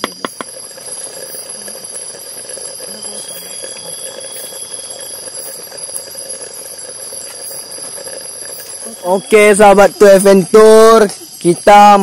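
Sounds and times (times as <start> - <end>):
campfire hissing: 0.0 - 12.0
faint regular ticks: 0.0 - 12.0
high-pitched trilling tones: 0.0 - 12.0
thin whistling tone: 0.0 - 12.0.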